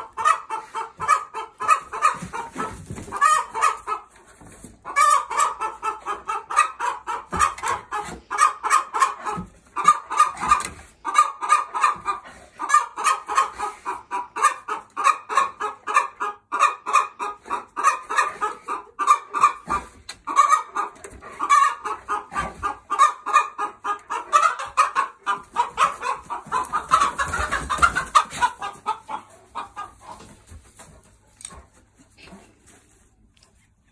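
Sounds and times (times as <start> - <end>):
chickens clucking and cackling: 0.0 - 33.9.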